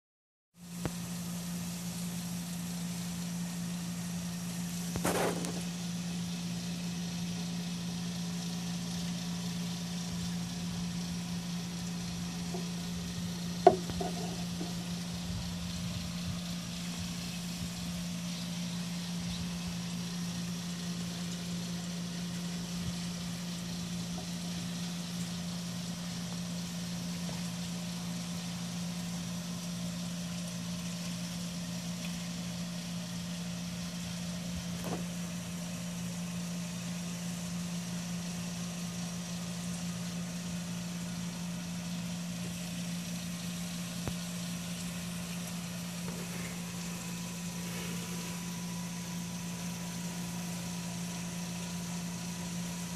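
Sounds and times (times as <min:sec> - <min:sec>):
constant hiss: 0:00.6 - 0:52.9
low mechanical hum: 0:00.6 - 0:52.9.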